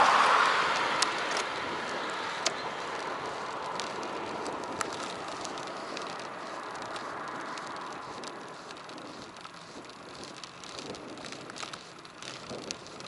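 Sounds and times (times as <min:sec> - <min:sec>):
bicycle tyre noise: 0:00.0 - 0:13.0
wind rush: 0:00.0 - 0:13.0
sharp clicks and rattles: 0:00.7 - 0:13.0.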